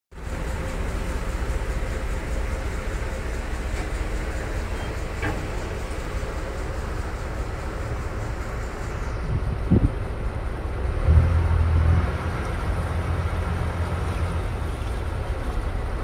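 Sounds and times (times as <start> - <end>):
boat engine rumbling: 0.1 - 16.0.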